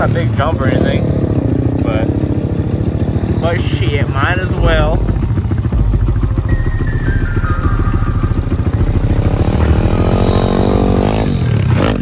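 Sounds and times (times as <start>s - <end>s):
pit bike engine revving: 0.0s - 6.5s, 8.3s - 12.0s
pit bike engine idling: 0.0s - 11.6s.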